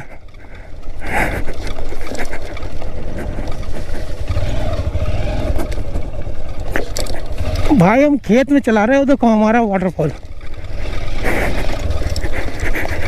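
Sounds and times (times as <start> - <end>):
motorcycle engine at low speed: 0.0 - 13.0.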